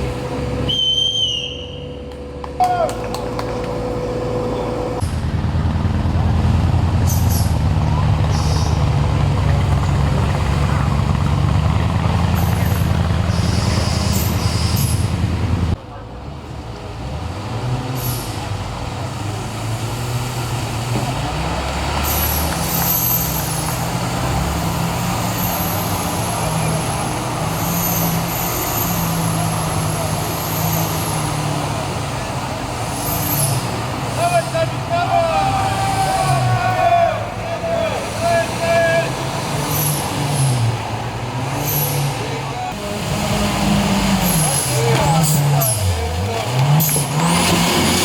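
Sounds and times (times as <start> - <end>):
vehicle engine droning: 0.0 - 48.0.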